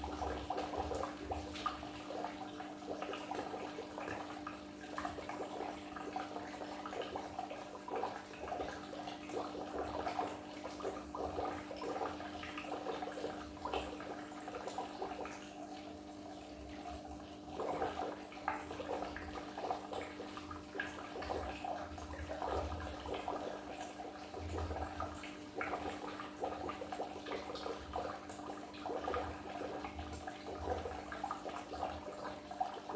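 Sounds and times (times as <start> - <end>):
aquarium water bubbling: 0.0 - 32.9.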